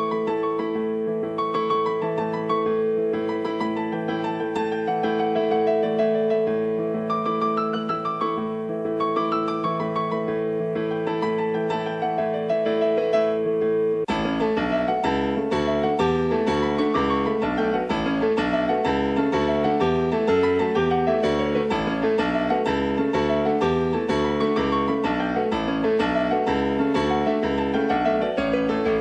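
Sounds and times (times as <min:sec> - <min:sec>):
piano music: 0:00.0 - 0:29.0
deep bass piano notes: 0:04.4 - 0:29.0.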